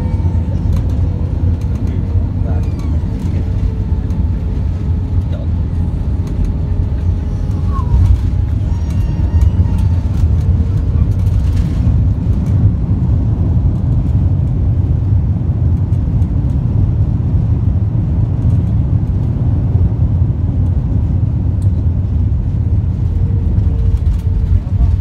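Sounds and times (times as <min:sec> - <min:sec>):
airliner cabin rumble on runway: 0:00.0 - 0:25.0.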